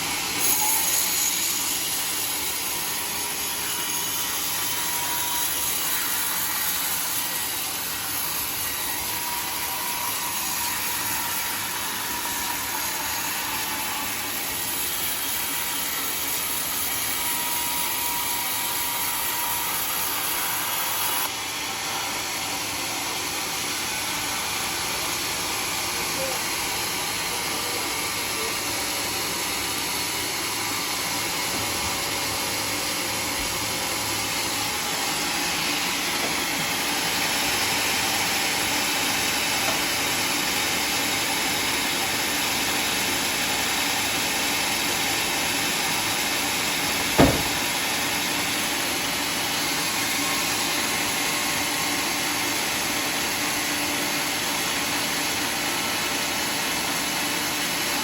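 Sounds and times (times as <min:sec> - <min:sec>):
saw cutting a log: 0:00.0 - 0:58.0.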